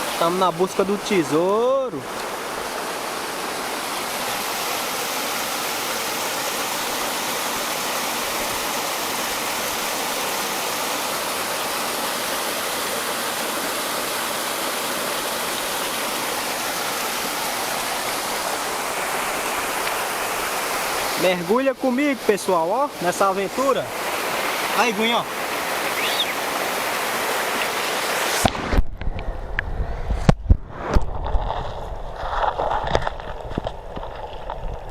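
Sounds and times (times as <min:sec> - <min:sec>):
water rushing from drain: 0:00.0 - 0:28.6.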